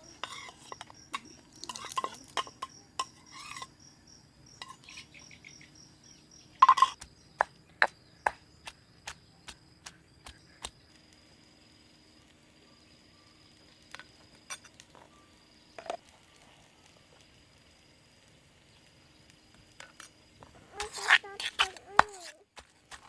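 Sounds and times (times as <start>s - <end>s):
insect trilling: 0.0s - 23.0s.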